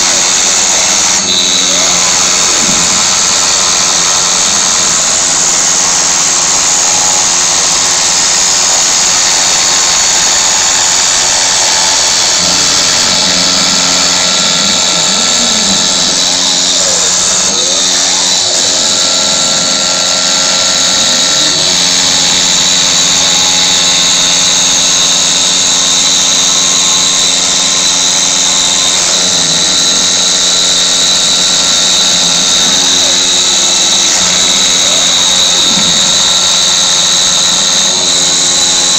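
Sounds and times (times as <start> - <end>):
axis motors humming: 0.0 - 38.9
router spindle whine and hiss: 0.0 - 38.9.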